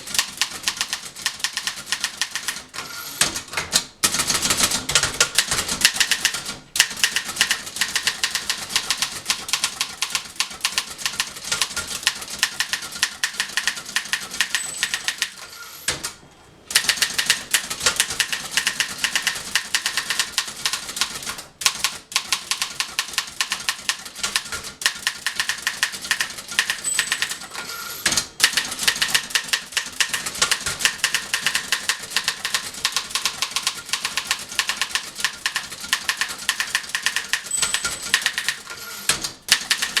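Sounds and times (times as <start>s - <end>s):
typewriter typing: 0.0s - 40.0s.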